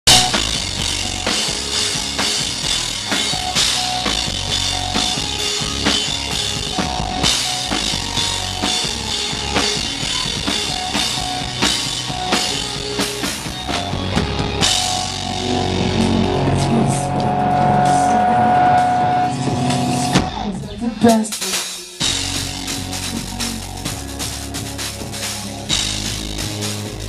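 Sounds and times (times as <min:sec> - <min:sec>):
live rock band playing: 0:00.0 - 0:27.0
drum-kit beat: 0:00.1 - 0:27.0
electric guitar: 0:00.1 - 0:27.0.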